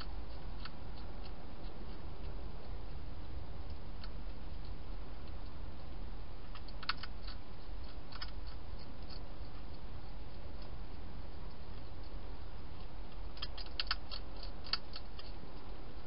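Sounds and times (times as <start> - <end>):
hedgehog crunching food: 0.0 - 16.0
steady low hiss: 0.0 - 16.0.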